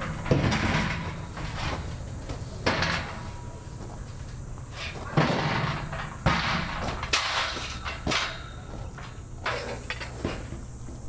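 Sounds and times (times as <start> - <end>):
steel gate clanking and scraping: 0.0 - 10.7.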